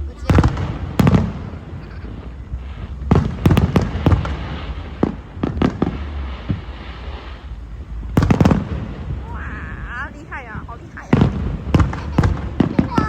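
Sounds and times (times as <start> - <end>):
fireworks bursting with sharp bangs: 0.0 - 13.0
low rumble: 0.0 - 13.0.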